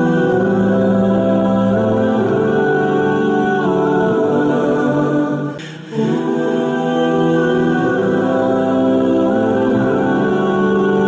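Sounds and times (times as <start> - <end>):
music of long held chords: 0.0 - 11.0.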